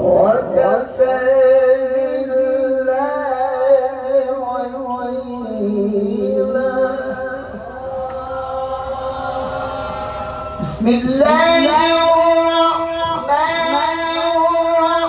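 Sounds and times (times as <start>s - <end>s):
man reciting melodically: 0.0s - 9.1s, 10.6s - 15.0s.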